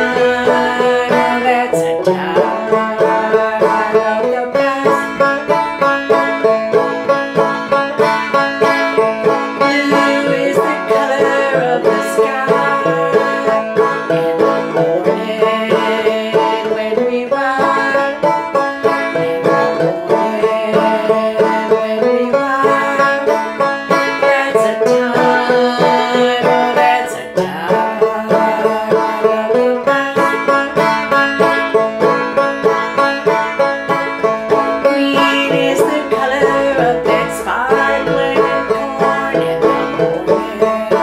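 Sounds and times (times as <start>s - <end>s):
banjo playing: 0.0s - 41.0s.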